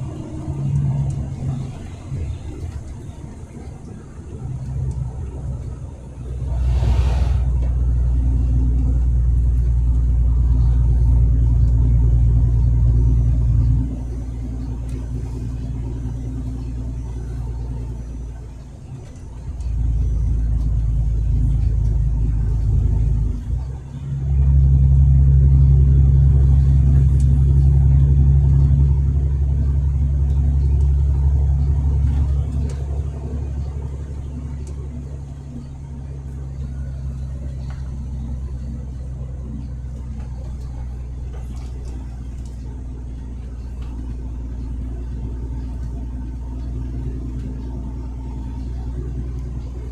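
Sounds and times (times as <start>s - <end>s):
truck diesel engine droning: 0.0s - 49.9s.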